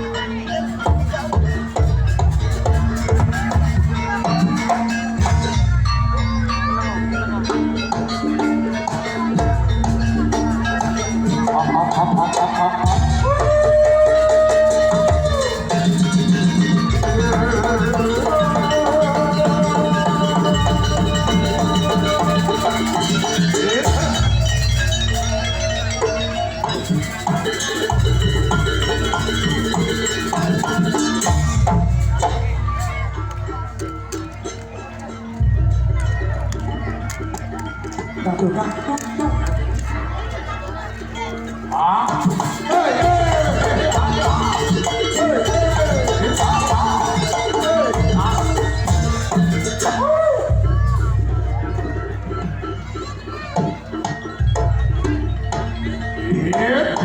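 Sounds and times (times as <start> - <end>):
drums: 0.0 - 57.0
percussion ensemble music: 0.0 - 57.0.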